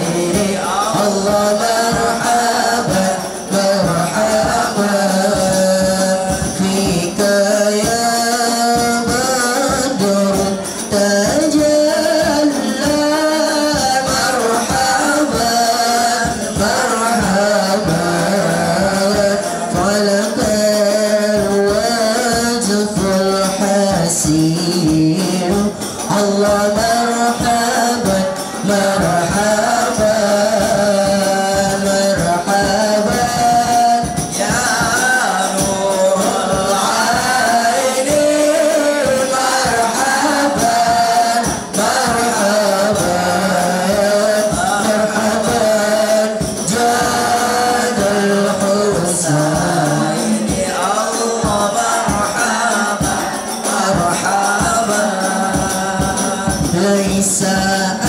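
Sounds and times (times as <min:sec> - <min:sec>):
boys singing into microphones: 0:00.0 - 0:58.0
frame drums beating: 0:00.0 - 0:58.0.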